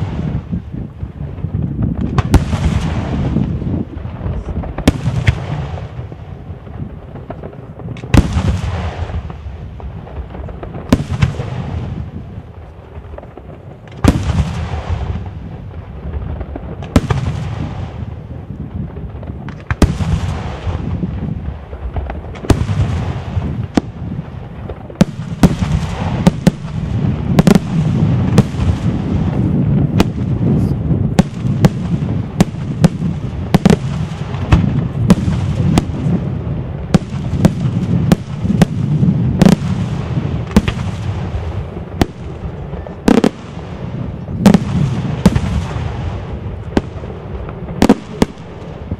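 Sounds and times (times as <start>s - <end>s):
fireworks bursting with sharp bangs: 0.0s - 48.9s.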